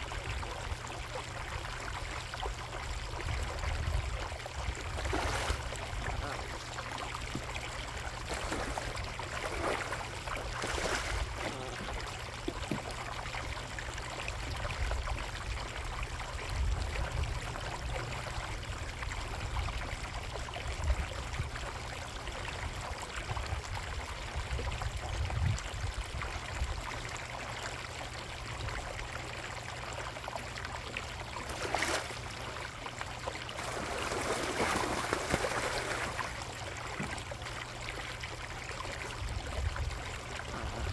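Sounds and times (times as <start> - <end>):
low steady rumble: 0.0 - 40.9
water trickling into a pond: 0.0 - 40.9.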